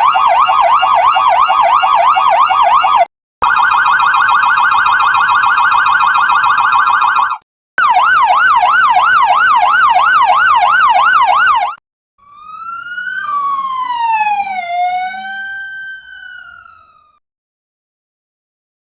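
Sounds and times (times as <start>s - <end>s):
police siren wail: 0.0s - 17.2s
police siren yelp: 0.0s - 17.2s.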